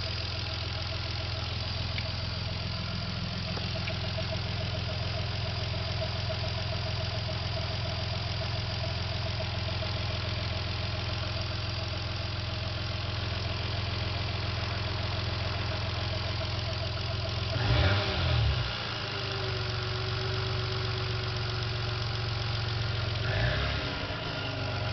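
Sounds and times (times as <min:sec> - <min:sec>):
car engine idling with pulsing tone: 0:00.0 - 0:24.9.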